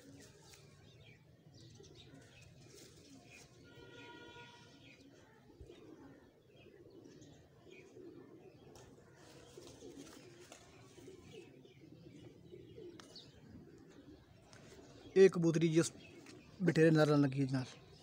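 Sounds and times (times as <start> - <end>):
pigeons cooing: 0.0 - 18.0
small birds chirping: 0.0 - 18.0.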